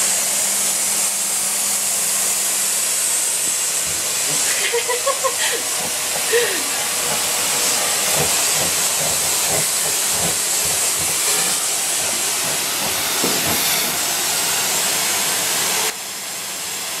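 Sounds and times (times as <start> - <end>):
vacuum cleaner rushing hiss: 0.0 - 17.0.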